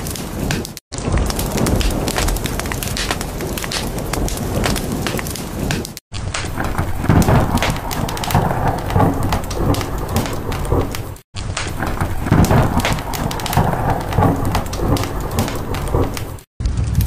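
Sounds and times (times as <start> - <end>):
crackle of sharp ticks: 0.0 - 17.0
rain: 0.0 - 17.0
low thunder-like rumble: 1.0 - 5.7, 6.4 - 17.0.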